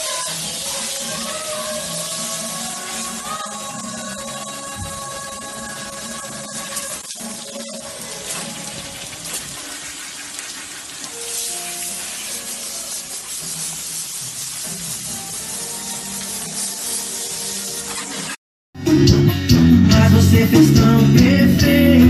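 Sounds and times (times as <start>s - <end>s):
faint music: 0.0s - 18.3s
water splashing on speaker: 0.0s - 18.4s.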